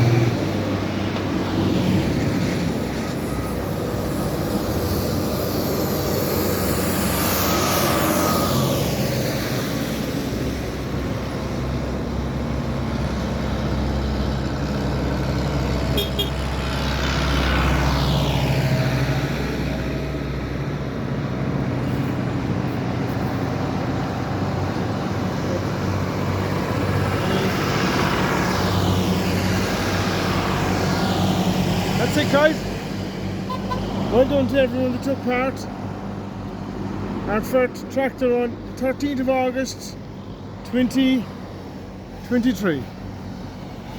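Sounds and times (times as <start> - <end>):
tractors driving past: 0.0 - 43.9.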